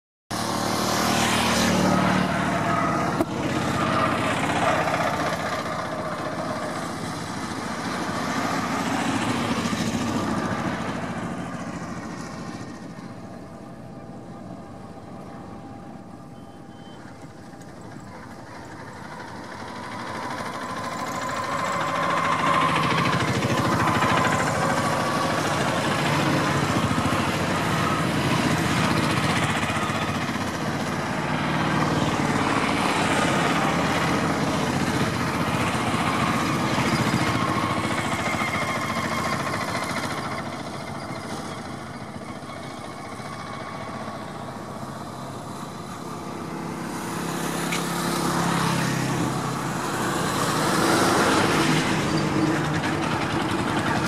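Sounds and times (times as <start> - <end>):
vehicles passing: 0.3 - 54.0.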